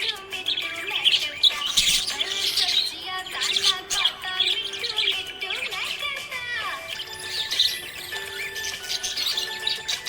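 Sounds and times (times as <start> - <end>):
small parrots chirping: 0.0 - 10.0.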